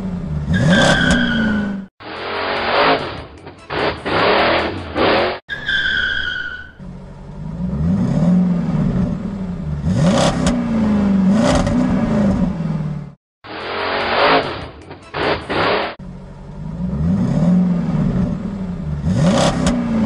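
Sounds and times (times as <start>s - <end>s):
cartoon car engine revving: 0.0s - 5.4s, 6.7s - 16.0s, 16.6s - 20.0s.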